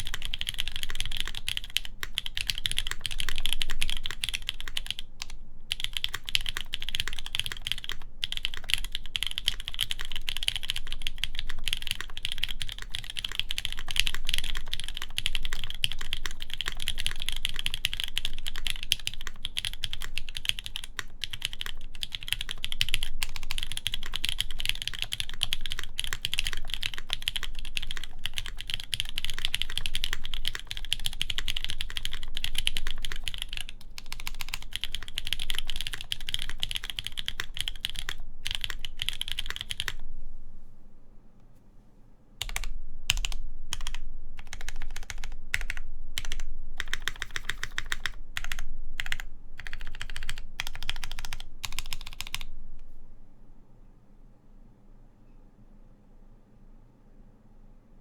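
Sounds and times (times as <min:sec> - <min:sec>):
mechanical keyboard typing: 0:00.0 - 0:40.0, 0:42.4 - 0:52.5.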